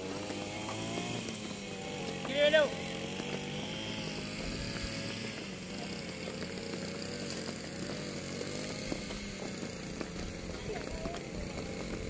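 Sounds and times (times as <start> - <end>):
boots marching on concrete: 0.0 - 12.0
steady mechanical drone: 0.0 - 12.0.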